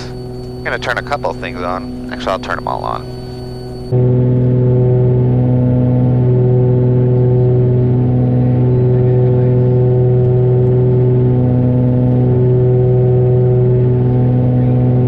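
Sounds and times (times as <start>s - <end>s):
aircraft cabin engine drone: 0.0s - 15.0s.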